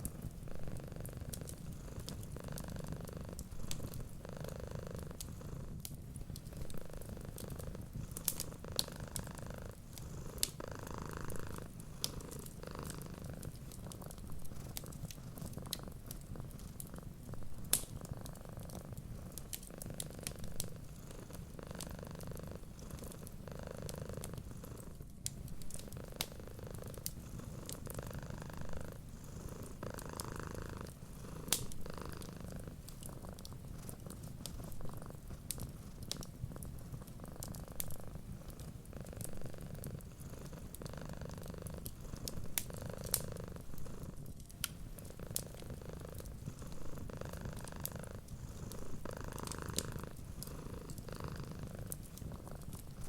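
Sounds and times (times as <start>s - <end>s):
cat purring: 0.0s - 53.0s
wood fire crackling: 0.0s - 53.0s.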